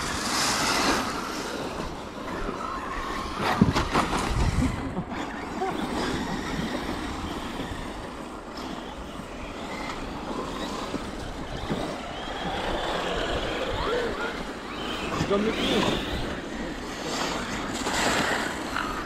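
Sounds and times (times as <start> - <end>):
electric rc cars running: 0.0 - 19.0
wind rumbling on microphone: 0.0 - 19.0.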